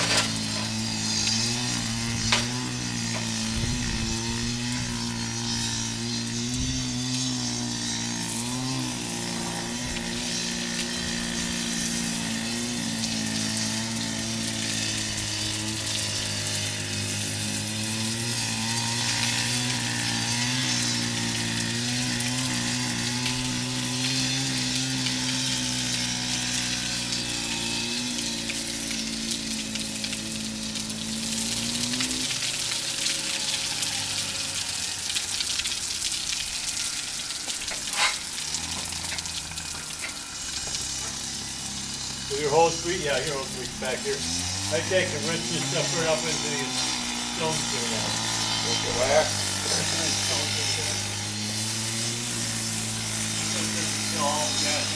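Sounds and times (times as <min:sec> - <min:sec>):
pump humming: 0:00.0 - 0:54.9
spray hissing on roof: 0:00.0 - 0:54.9.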